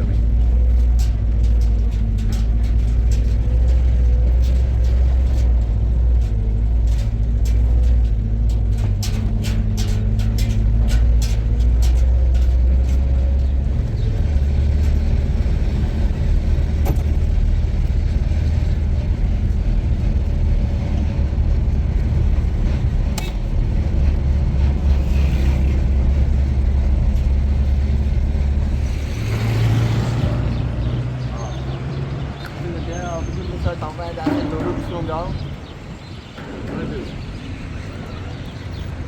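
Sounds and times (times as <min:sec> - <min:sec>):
vehicle engine rumble: 0:00.0 - 0:39.0.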